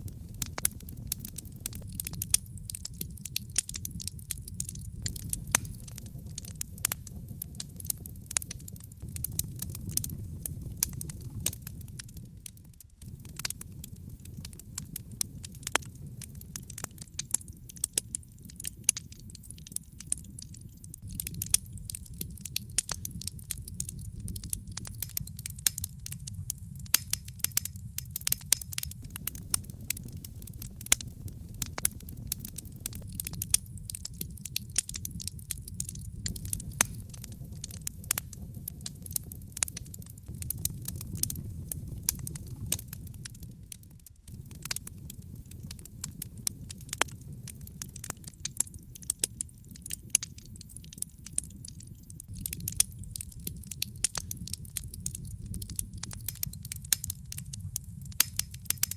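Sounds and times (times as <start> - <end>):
low rumble of fire: 0.0 - 58.9
wood fire crackling and popping: 0.0 - 58.9.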